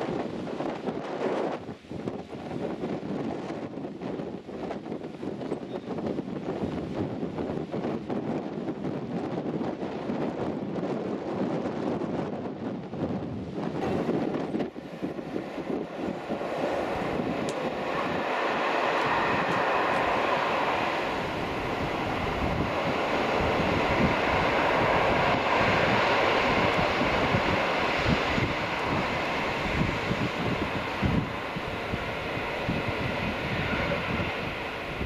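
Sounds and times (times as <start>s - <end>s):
freight train wheels on rails: 0.0s - 35.0s
wind buffeting microphone: 0.0s - 35.0s.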